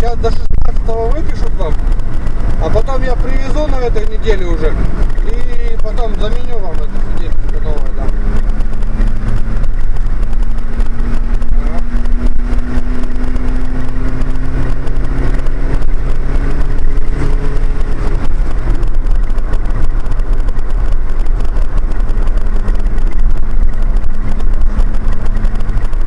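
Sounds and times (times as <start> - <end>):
car driving on road: 0.0 - 26.0.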